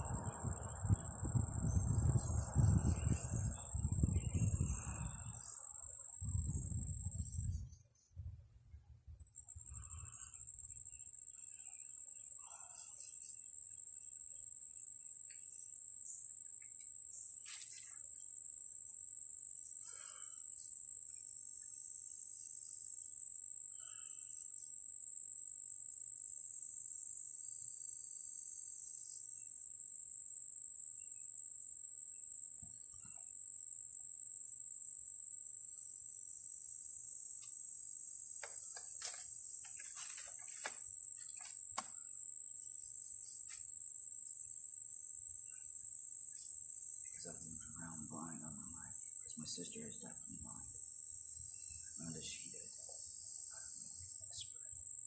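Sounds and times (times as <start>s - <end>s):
crickets chirping: 0.0s - 55.0s
high pulsing insect call: 0.0s - 55.0s.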